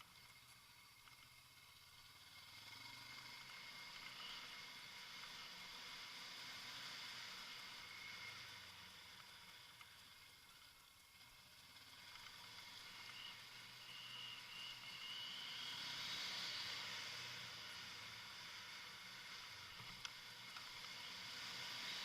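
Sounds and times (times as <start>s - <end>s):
faint motorcycle riding: 0.0s - 22.0s
faint rising whine: 0.0s - 22.0s
steady hiss: 0.0s - 22.0s.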